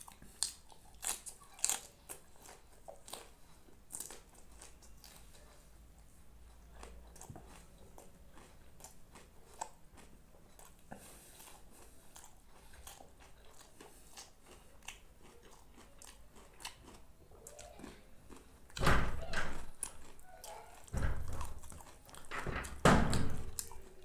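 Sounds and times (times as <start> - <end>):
person chewing food: 0.0 - 18.8, 19.5 - 24.0.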